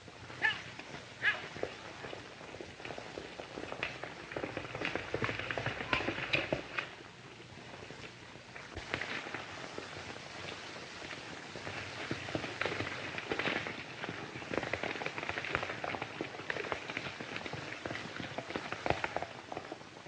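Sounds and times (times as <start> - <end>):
film soundtrack hiss: 0.0 - 20.0
horse hooves on stony trail: 0.0 - 20.0.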